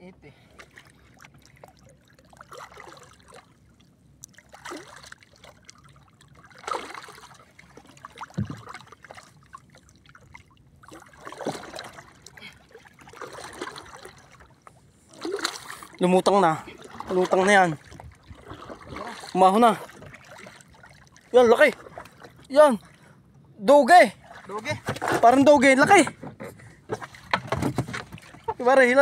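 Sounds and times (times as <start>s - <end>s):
water sloshing against boat hull: 0.1s - 29.0s.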